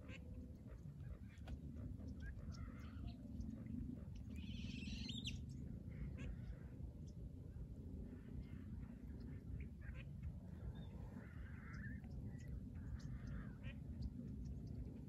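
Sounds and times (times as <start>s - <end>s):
bird calls: 0.0s - 6.7s, 8.3s - 15.0s
low steady rumble: 0.0s - 15.0s.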